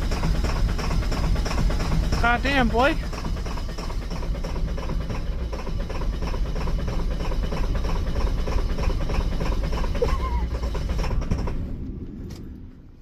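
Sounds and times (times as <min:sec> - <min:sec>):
diesel engine idling: 0:00.0 - 0:12.7.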